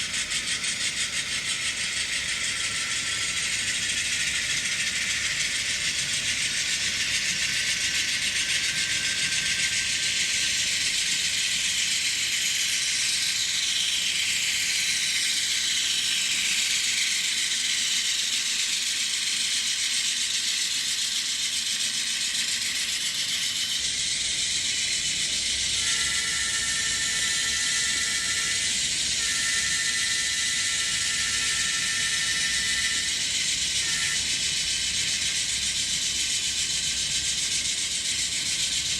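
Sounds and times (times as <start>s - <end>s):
model trains running and rattling: 0.0s - 38.9s.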